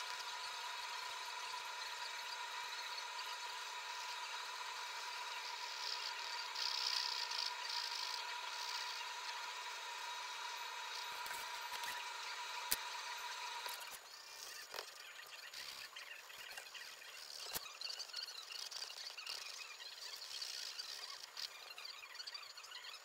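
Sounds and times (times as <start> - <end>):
thin constant tone: 0.0 - 23.0.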